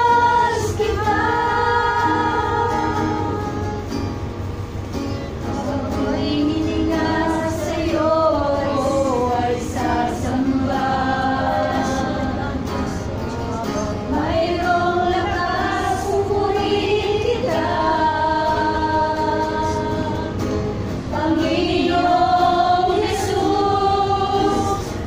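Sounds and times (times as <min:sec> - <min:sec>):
women singing praise song: 0:00.0 - 0:03.9, 0:05.5 - 0:25.0.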